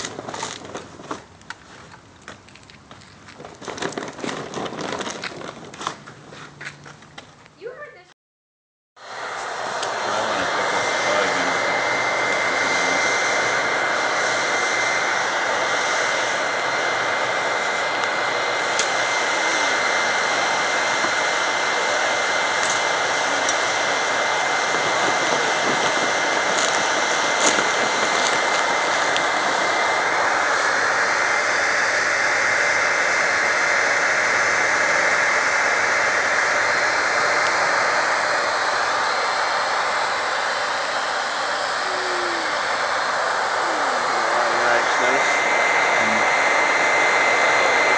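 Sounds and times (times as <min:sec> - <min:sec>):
air roaring through burning fuel: 0:00.0 - 0:06.8, 0:09.0 - 0:47.9
high whine: 0:09.0 - 0:47.9.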